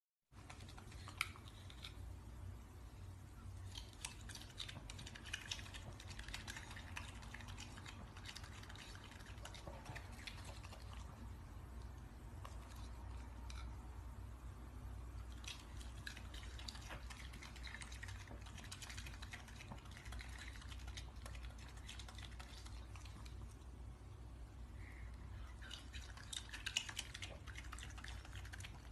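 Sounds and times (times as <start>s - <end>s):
wet chewing sounds: 0.3s - 2.1s, 3.5s - 14.0s, 15.0s - 23.8s, 25.2s - 28.9s
low steady hum: 0.3s - 28.9s.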